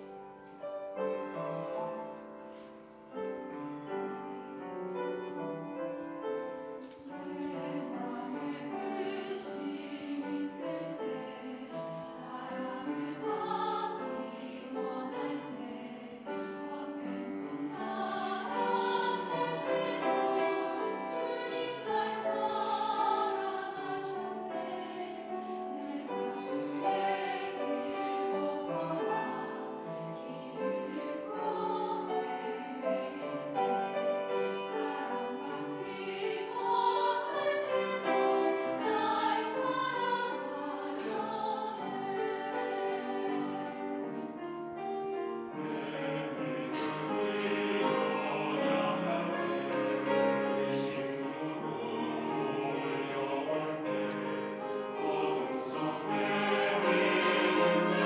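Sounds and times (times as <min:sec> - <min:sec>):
mixed choir singing: 0:01.0 - 0:58.0.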